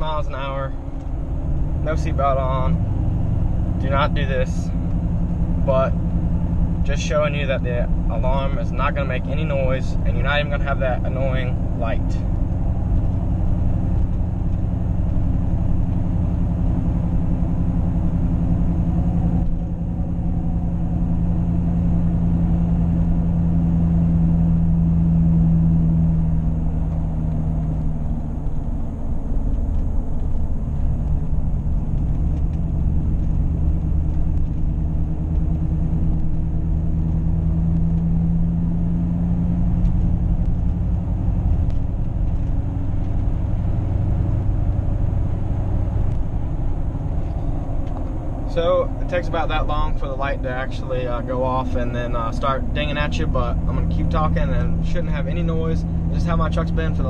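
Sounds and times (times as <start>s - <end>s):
engine and road drone: 0.0s - 57.0s.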